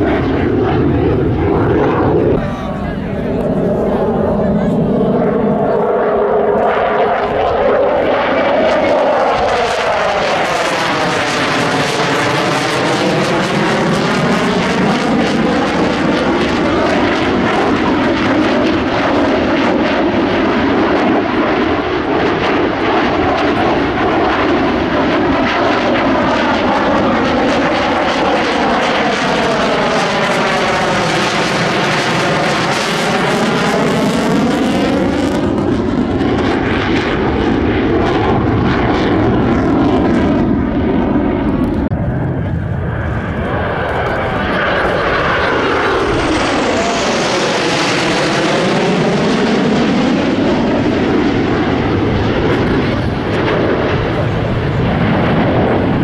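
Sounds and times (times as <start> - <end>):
fighter jets roaring overhead: 0.0 - 56.0.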